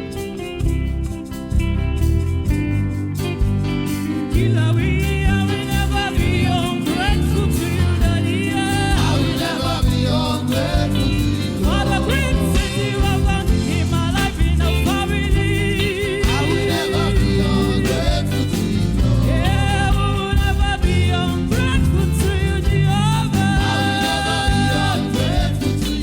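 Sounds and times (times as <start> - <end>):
band with heavy bass: 0.0 - 26.0
person singing gospel: 4.2 - 26.0.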